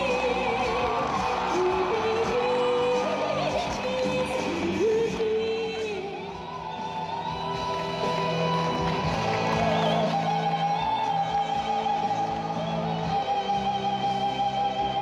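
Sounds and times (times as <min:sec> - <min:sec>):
backing music: 0:00.0 - 0:15.0.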